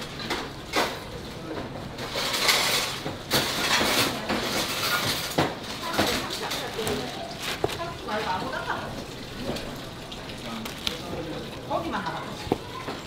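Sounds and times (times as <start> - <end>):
kitchen clatter and clinks: 0.0 - 13.0.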